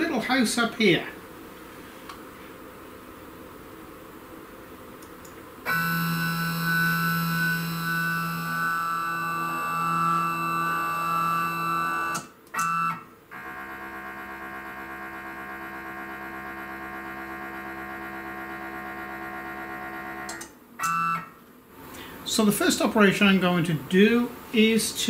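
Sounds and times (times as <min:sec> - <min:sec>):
pulsing electrical hum: 0:00.0 - 0:25.0.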